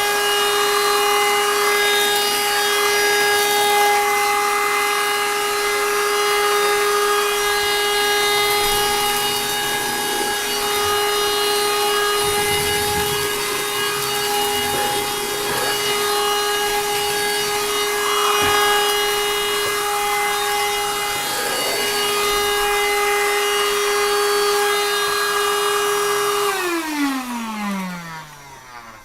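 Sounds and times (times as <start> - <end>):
handheld vacuum cleaner whine: 0.0 - 29.0
vacuum motor winding down: 0.0 - 29.0
rice rattling and scraping: 1.7 - 25.0.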